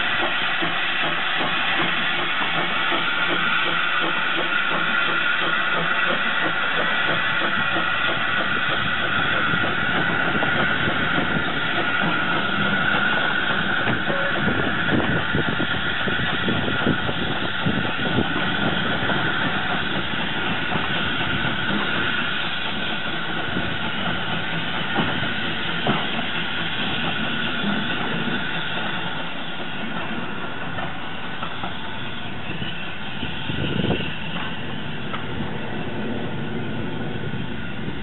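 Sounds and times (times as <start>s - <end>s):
rail clicks: 0.0s - 38.0s
train wheels rumbling on track: 0.0s - 38.0s.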